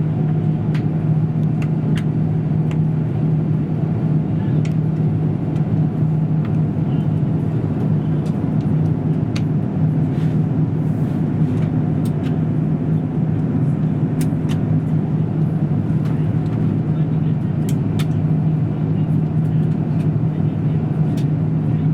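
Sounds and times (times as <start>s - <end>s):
jet engine drone in cabin: 0.0s - 21.9s.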